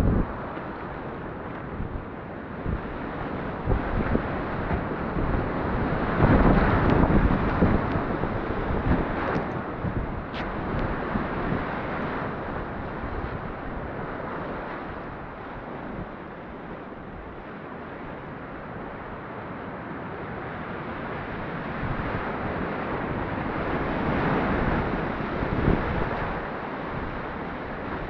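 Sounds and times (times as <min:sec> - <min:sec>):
wind buffeting microphone: 0:00.0 - 0:19.3, 0:20.1 - 0:28.0.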